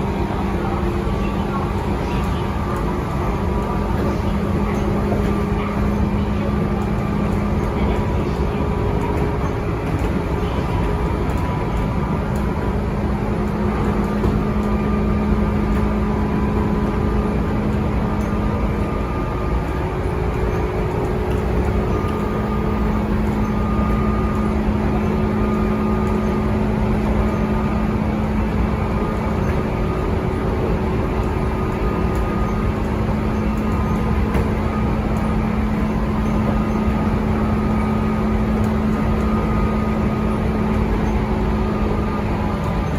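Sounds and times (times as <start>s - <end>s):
electric train running rumble: 0.0s - 42.9s.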